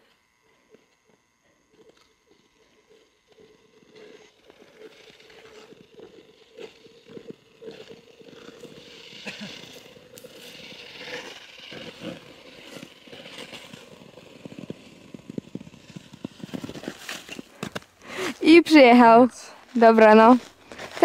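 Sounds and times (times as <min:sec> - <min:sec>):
ice skates scraping on ice: 0:01.7 - 0:21.0.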